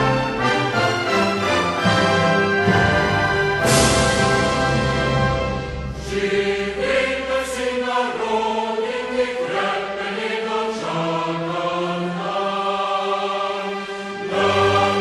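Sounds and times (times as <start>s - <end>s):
slow choral music: 0.0s - 15.0s.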